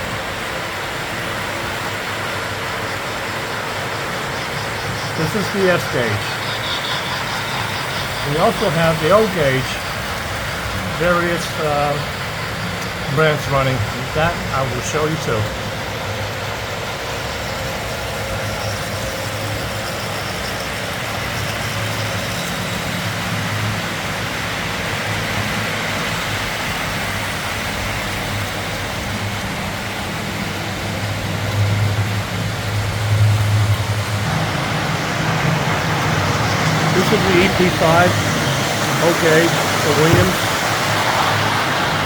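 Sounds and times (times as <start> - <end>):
wheels rumbling on rail: 0.0 - 42.0.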